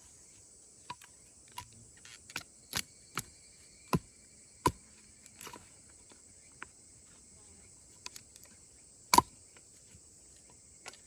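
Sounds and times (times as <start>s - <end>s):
high insect chirring: 0.0s - 11.0s.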